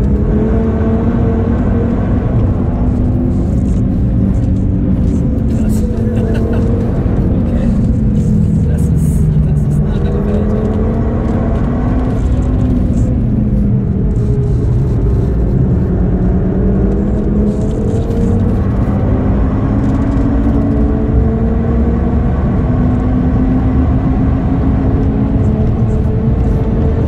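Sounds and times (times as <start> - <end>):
car engine revving: 0.0 - 27.0
gear upshift: 0.0 - 27.0.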